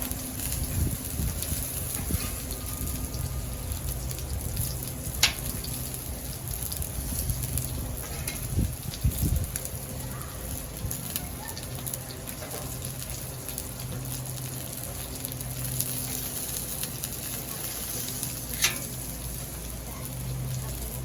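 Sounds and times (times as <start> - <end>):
food sizzling on a griddle: 0.0 - 21.0.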